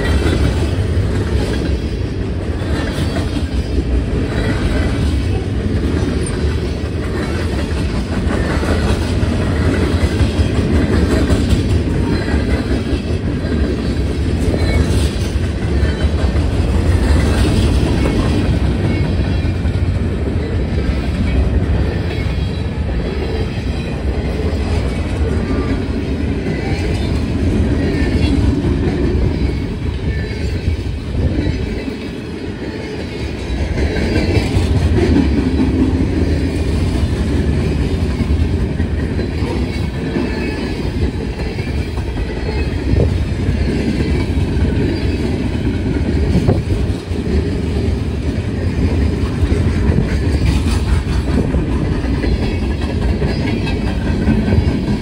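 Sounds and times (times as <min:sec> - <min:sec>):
freight train rolling past: 0:00.0 - 0:55.0
wheels clacking over rail joints: 0:00.0 - 0:55.0.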